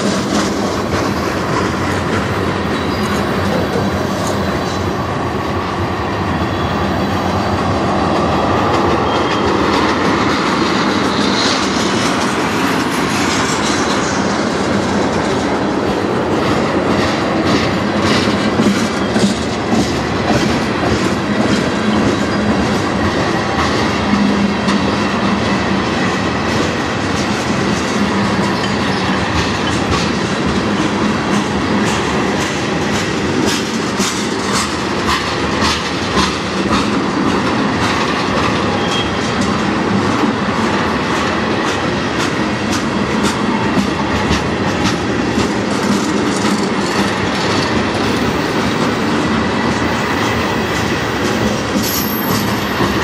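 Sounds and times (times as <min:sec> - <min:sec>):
train wheels rumbling on rail: 0:00.0 - 0:53.0
wheels clacking over rail joints: 0:00.0 - 0:53.0.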